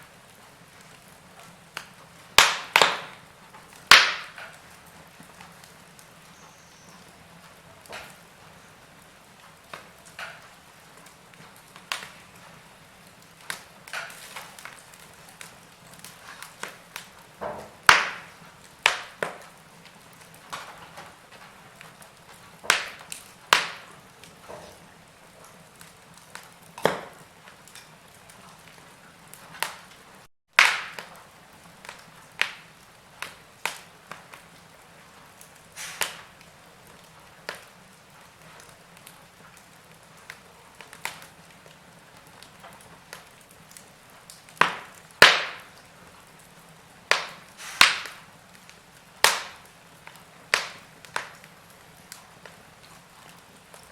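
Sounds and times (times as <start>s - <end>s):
faint steady hiss: 0.0s - 53.9s
wood fire crackling: 0.0s - 53.9s.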